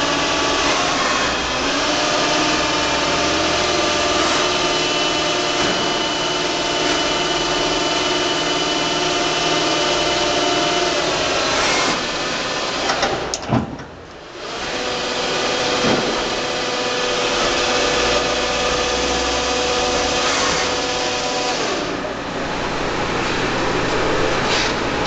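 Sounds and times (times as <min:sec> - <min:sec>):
lathe machine whine: 0:00.0 - 0:13.2, 0:14.2 - 0:25.0.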